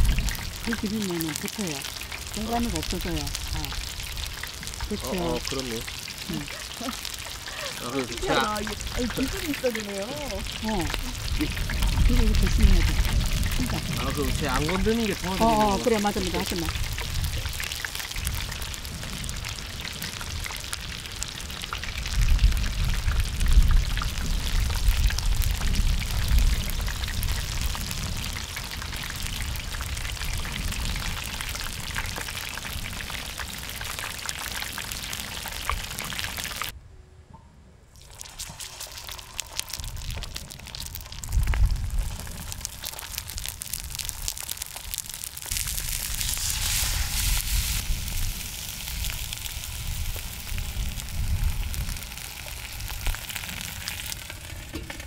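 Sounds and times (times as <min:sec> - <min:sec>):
batter deep-frying in oil: 0:00.0 - 0:36.8, 0:37.9 - 0:55.0
low rumbles: 0:00.0 - 0:38.0, 0:39.0 - 0:55.0.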